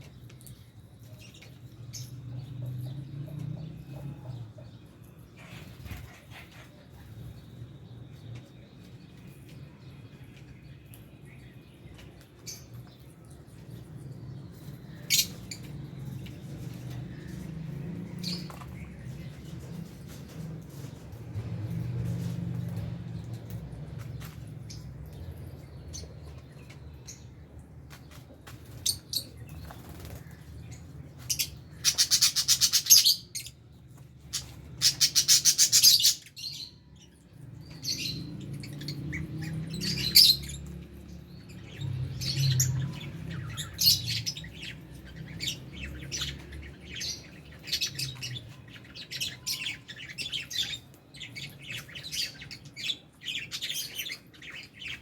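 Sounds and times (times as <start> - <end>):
birds chirping and chattering: 0.0 - 55.0.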